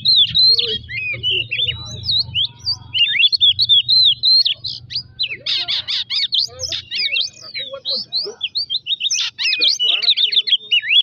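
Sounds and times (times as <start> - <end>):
songbird whistles and chirps: 0.0 - 11.0.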